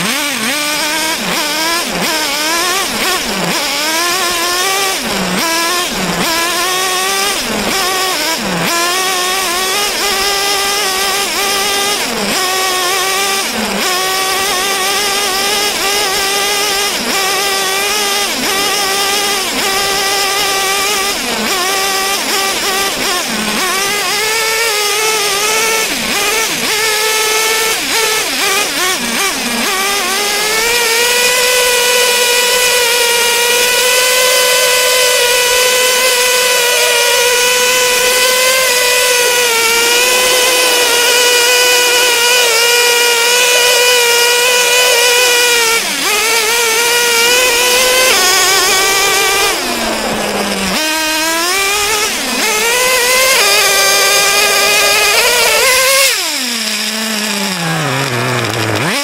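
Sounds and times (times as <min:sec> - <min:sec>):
small engine buzzing: 0:00.0 - 0:59.0.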